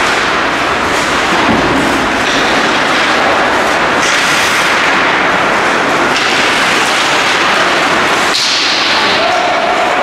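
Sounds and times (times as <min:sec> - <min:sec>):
ice hockey game noise: 0:00.0 - 0:10.0.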